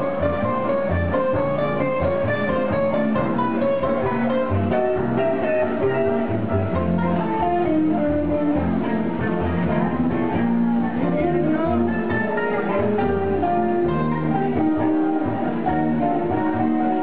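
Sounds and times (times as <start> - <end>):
low bass notes: 0.0 - 17.0
swing jazz band playing: 0.0 - 17.0.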